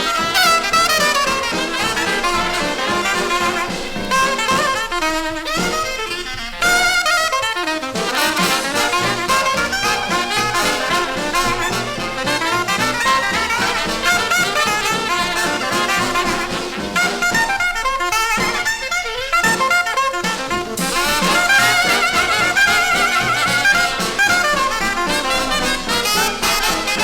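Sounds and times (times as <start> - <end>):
jazz brass horns melody: 0.0 - 27.0.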